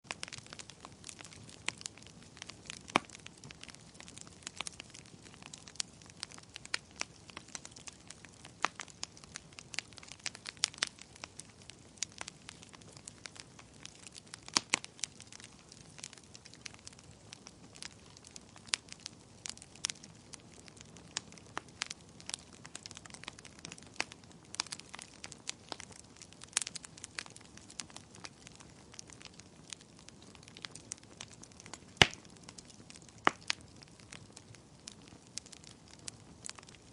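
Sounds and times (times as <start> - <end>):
wood fire crackling: 0.1 - 36.9.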